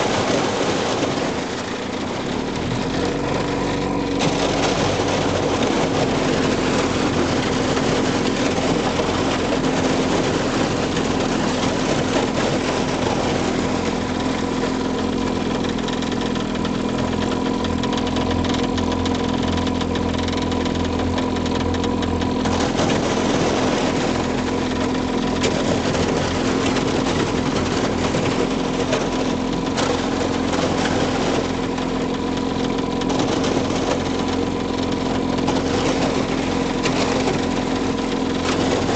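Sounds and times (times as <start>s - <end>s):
ice crackling against boat hull: 0.0s - 38.9s
outboard motor running: 0.0s - 38.9s.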